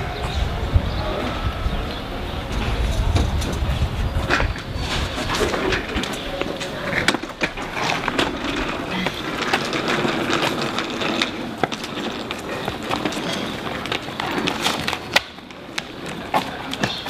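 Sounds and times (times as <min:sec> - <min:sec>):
suitcase wheels rattling on concrete: 0:00.0 - 0:17.0.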